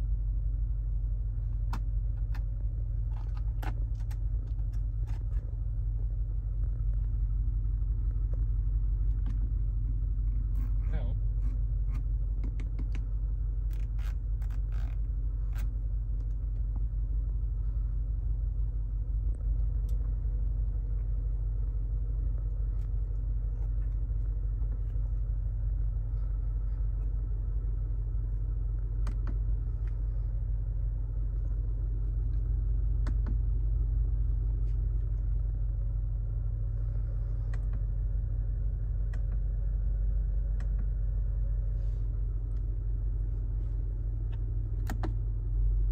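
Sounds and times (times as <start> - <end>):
car engine idling rumble: 0.0 - 45.9.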